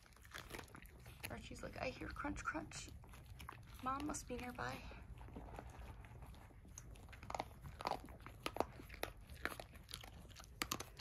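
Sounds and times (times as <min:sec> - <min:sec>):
dog crunching dry kibble: 0:00.0 - 0:11.0.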